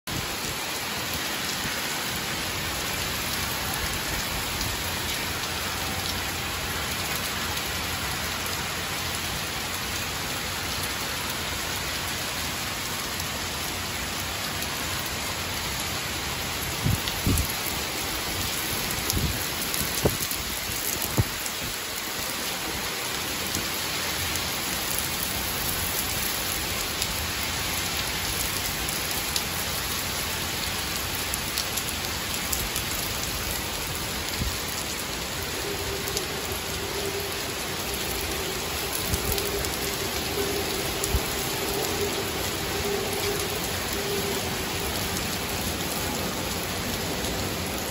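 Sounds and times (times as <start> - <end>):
torrential rain: 0.0 - 47.9.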